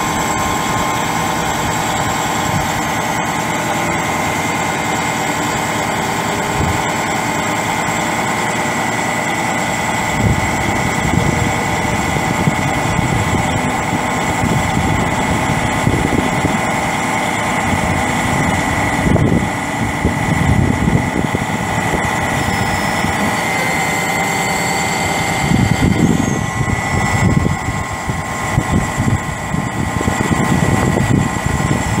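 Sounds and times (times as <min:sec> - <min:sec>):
diesel truck engine running: 0:00.0 - 0:32.0
hydraulic crane whine: 0:00.0 - 0:32.0
low rumbling surges: 0:00.0 - 0:32.0.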